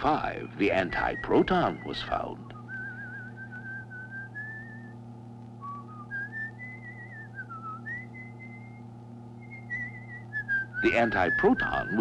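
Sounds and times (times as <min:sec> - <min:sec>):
steady low hum: 0:00.0 - 0:12.0
person whistling a tune: 0:01.0 - 0:05.0, 0:05.6 - 0:08.8, 0:09.4 - 0:12.0.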